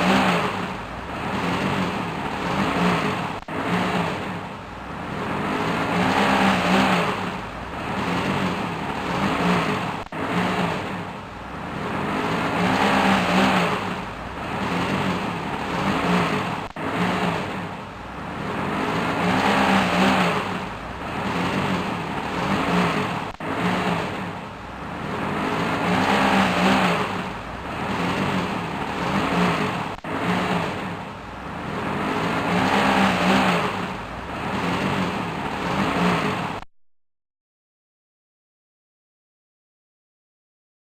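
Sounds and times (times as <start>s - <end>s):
truck engine revving: 0.0s - 36.7s.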